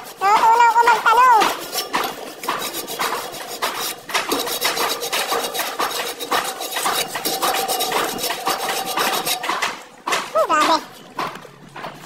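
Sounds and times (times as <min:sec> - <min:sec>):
hand scraping metal grille: 0:00.0 - 0:12.0.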